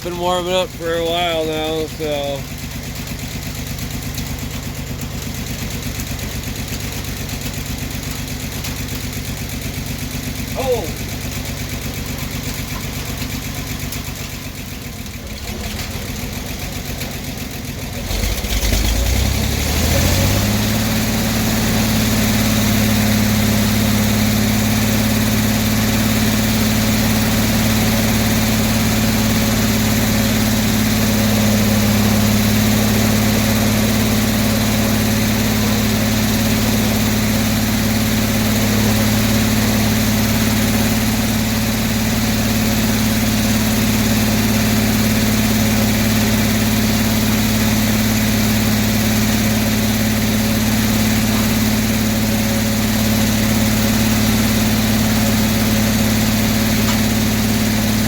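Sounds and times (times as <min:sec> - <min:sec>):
sawmill engine running: 0:00.0 - 0:58.0.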